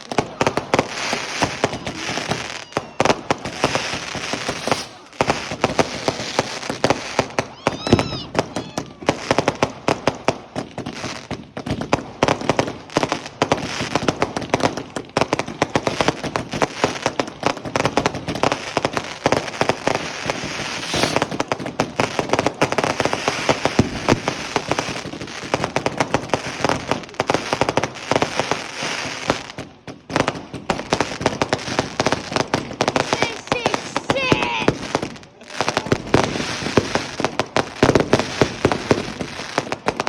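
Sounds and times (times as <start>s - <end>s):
fireworks bangs: 0.0s - 40.0s
fireworks crackling pops: 0.0s - 40.0s.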